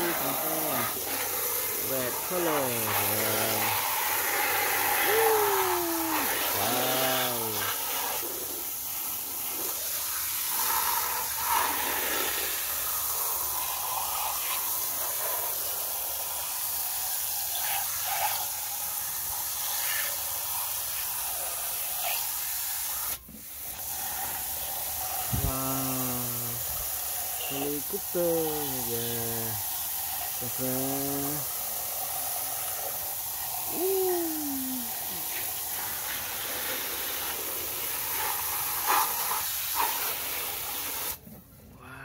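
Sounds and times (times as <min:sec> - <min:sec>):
water jet spraying and splashing: 0:00.0 - 0:41.3.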